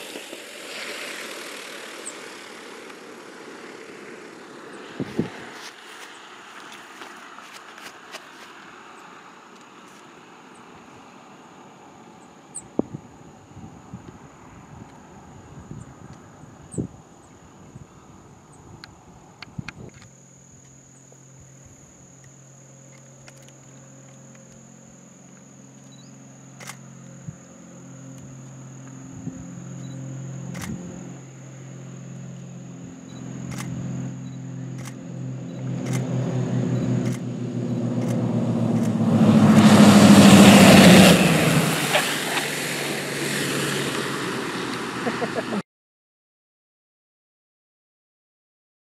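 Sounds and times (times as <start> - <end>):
high insect tone: 0.0 - 45.3
propeller aircraft drone: 0.0 - 45.6.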